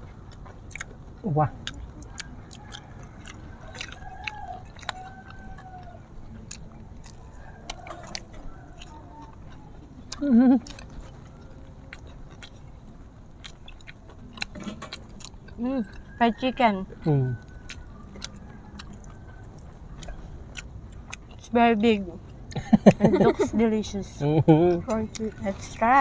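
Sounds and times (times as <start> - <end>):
chewing crunchy fried food: 0.0 - 23.2.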